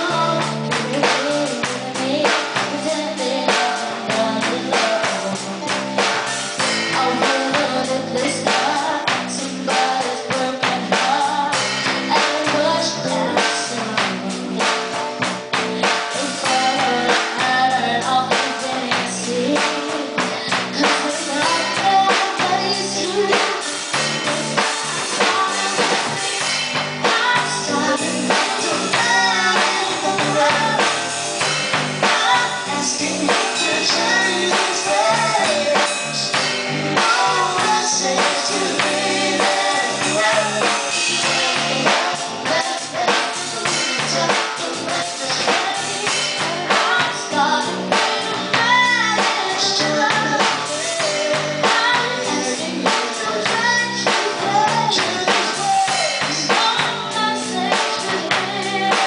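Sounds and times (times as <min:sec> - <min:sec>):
drum kit: 0:00.0 - 0:59.0
electric guitar: 0:00.0 - 0:59.0
person singing into microphone: 0:00.0 - 0:59.0.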